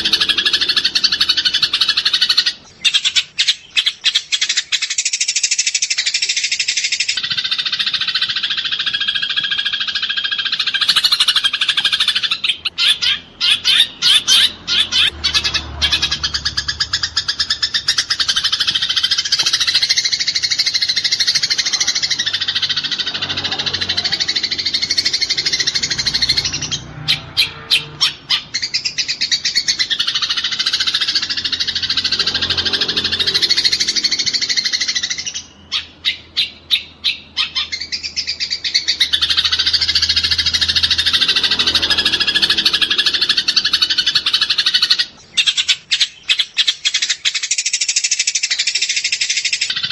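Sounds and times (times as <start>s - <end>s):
sparrows chattering: 0.0s - 49.9s.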